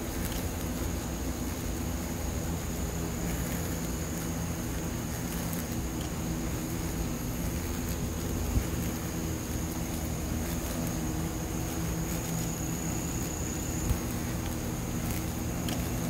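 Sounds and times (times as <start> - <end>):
hornets and bees buzzing: 0.0 - 16.0
steady high whine: 0.0 - 16.0.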